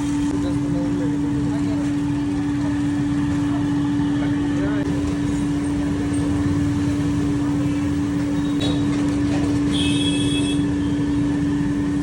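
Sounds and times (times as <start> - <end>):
machine humming and rumbling: 0.0 - 12.0.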